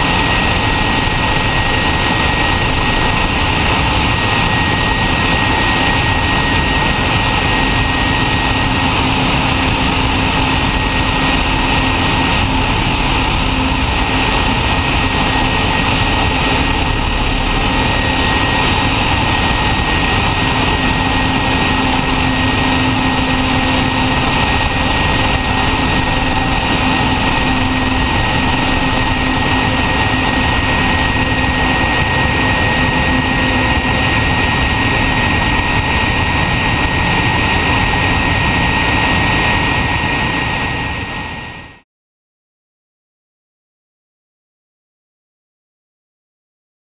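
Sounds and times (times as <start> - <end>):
jet engines roaring with whine: 0.0 - 41.8.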